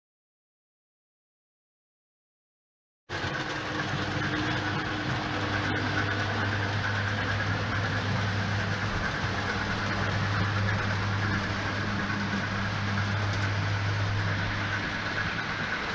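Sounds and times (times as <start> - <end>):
model train running on track: 3.1 - 15.9.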